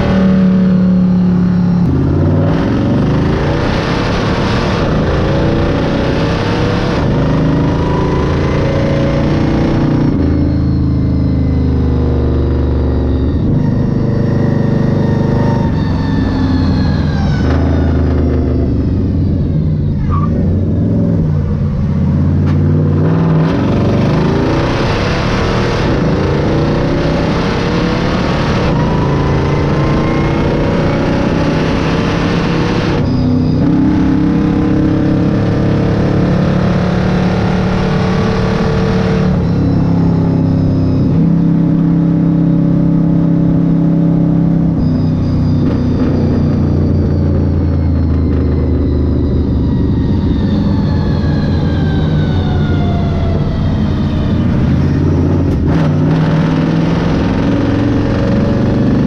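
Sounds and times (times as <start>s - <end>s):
race car engine running loud: 0.0s - 59.0s.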